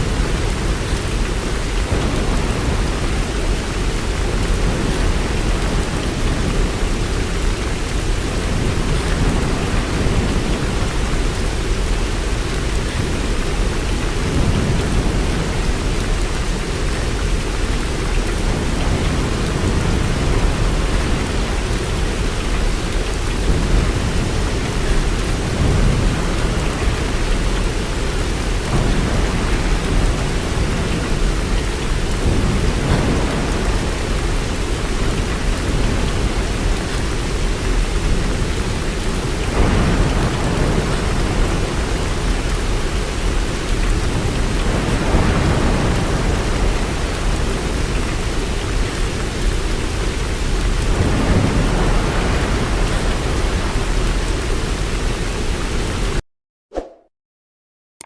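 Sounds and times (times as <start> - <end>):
low rolling thunder: 0.0 - 56.0
heavy rain: 0.0 - 56.2.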